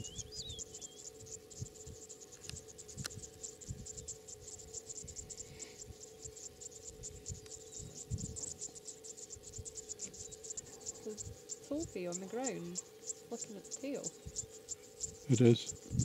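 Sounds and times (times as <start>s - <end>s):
faint steady hum: 0.0s - 16.0s
insects chirring: 0.0s - 16.0s.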